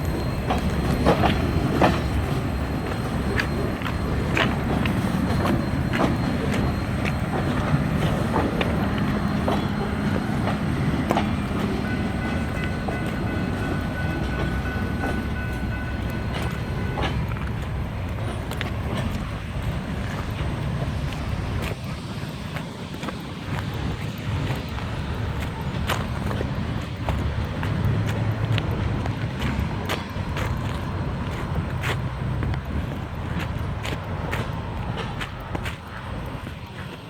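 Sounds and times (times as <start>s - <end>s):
freight train rumbling: 0.0s - 37.0s
wheels clicking over rail joints: 0.0s - 37.0s.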